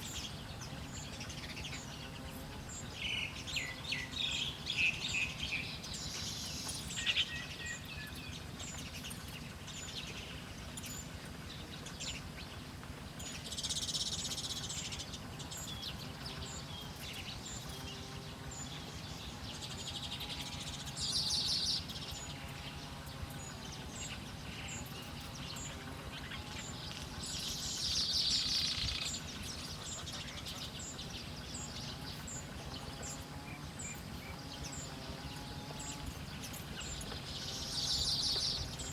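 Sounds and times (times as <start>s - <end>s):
birds chirping: 0.0s - 38.9s
outdoor background noise: 0.0s - 38.9s.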